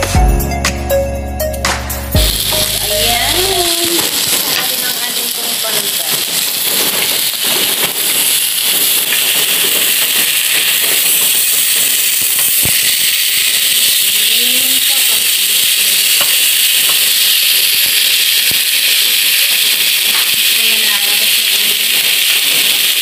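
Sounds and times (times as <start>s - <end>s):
fish sizzling in a pan: 2.2s - 23.0s.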